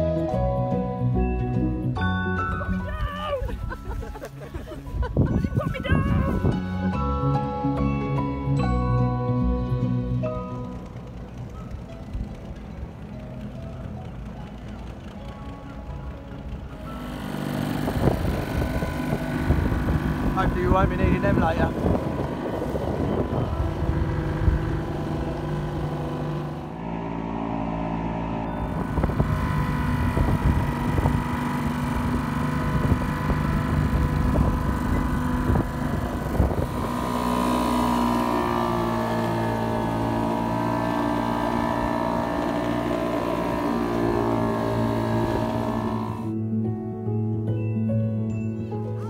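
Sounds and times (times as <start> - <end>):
small outboard motor running: 0.0 - 46.6.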